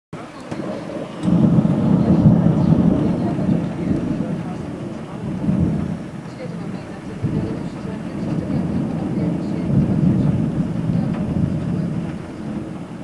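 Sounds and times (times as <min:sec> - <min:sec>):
thunder rumbling: 0:00.2 - 0:13.0.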